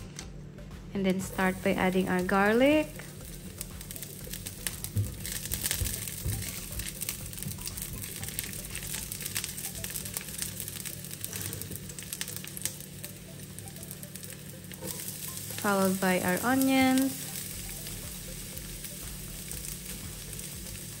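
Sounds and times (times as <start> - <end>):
garlic sizzling in oil: 1.3 - 21.0.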